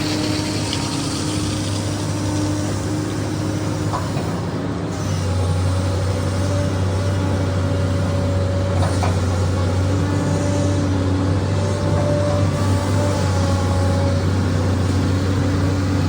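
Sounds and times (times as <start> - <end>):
excavator diesel engine humming: 0.0 - 16.0.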